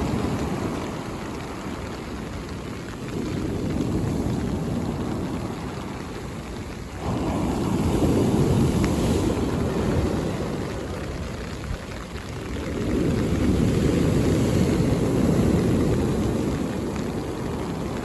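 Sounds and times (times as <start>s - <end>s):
sea waves breaking on shore: 0.0s - 18.0s.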